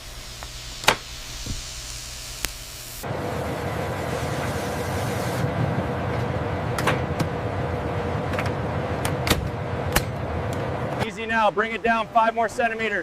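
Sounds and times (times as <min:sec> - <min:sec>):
machinery hum with held tone: 0:00.0 - 0:11.1.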